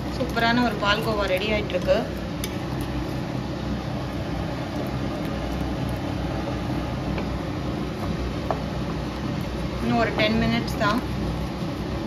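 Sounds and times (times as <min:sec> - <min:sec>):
milk simmering: 0:00.0 - 0:12.0
stovetop rumble and hiss: 0:00.0 - 0:12.0.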